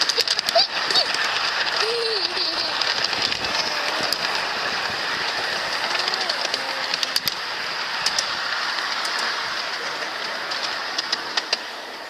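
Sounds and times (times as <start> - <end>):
ride-on train rumbling: 0.0 - 12.0
wheels clicking over rail joints: 0.0 - 12.0.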